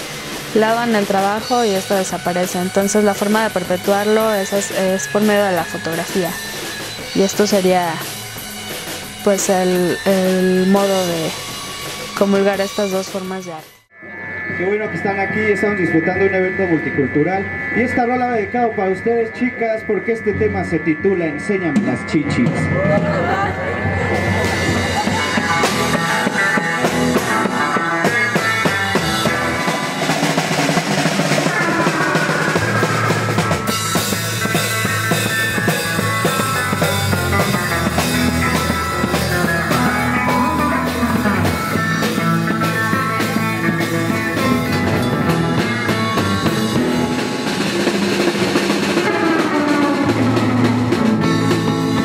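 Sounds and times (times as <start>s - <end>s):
rock band playing live: 0.0s - 13.5s, 21.7s - 52.0s.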